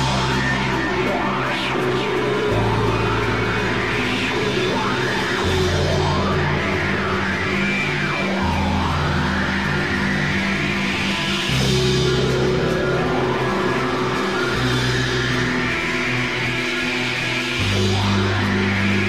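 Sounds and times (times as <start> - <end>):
heavy rock music: 0.0 - 19.0.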